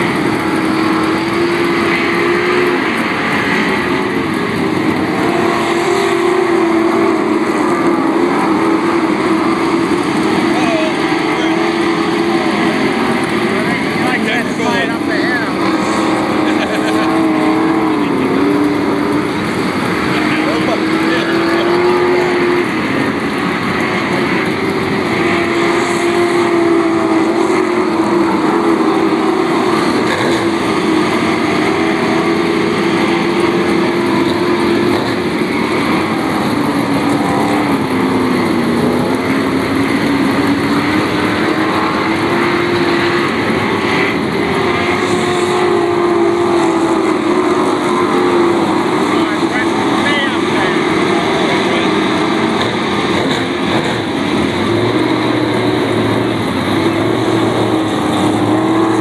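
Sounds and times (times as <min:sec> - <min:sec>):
race car engines droning: 0:00.0 - 0:59.0.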